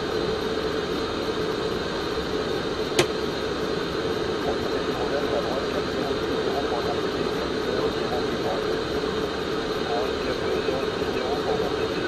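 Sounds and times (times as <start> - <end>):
cockpit airflow and engine noise: 0.0 - 12.0.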